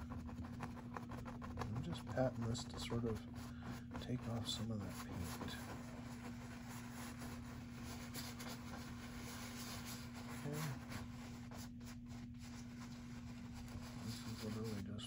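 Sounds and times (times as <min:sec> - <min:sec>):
paintbrush scratching on canvas: 0:00.0 - 0:15.0
steady low hum: 0:00.0 - 0:15.0.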